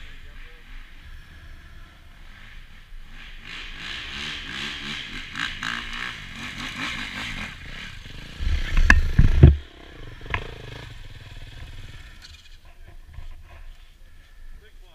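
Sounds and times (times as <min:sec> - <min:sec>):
dirt bike engine idling: 0:00.0 - 0:14.9.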